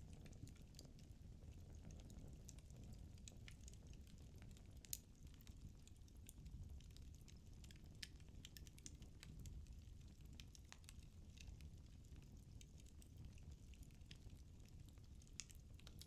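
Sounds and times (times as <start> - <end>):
fire crackling and popping: 0.0 - 16.0
low rumble of fire: 0.0 - 16.0.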